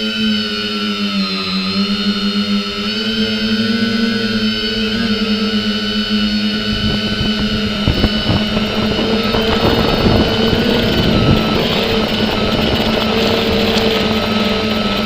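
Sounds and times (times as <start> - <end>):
drone propellers whining: 0.0 - 15.0
wind buffeting microphone: 1.8 - 15.0.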